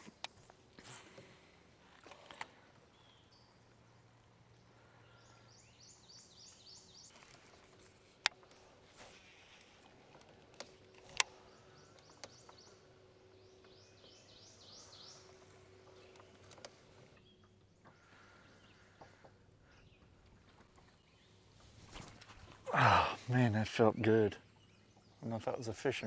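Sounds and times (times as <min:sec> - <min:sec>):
faint steady hum: 0:00.0 - 0:25.1
birds chirping: 0:00.0 - 0:26.0.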